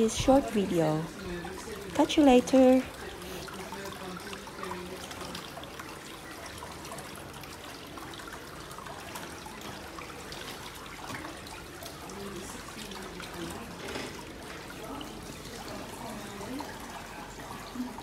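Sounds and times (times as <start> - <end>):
water trickling and swirling: 0.0 - 18.0.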